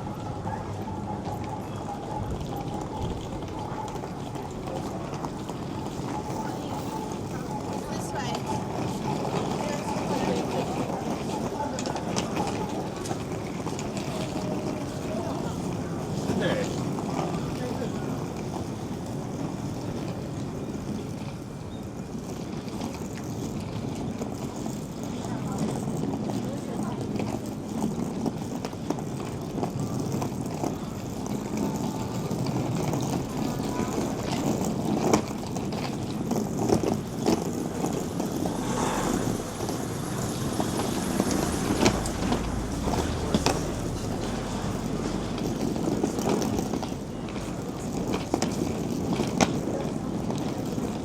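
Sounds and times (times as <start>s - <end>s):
city street ambience rumble: 0.0s - 51.0s
outdoor hubbub: 0.0s - 51.0s.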